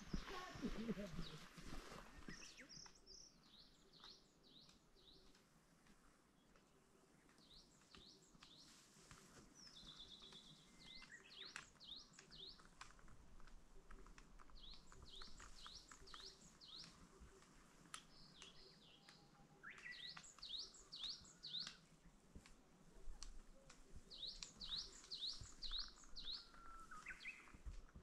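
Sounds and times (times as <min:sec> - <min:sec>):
birds chirping: 0:00.0 - 0:05.4, 0:09.5 - 0:22.0, 0:23.0 - 0:28.0.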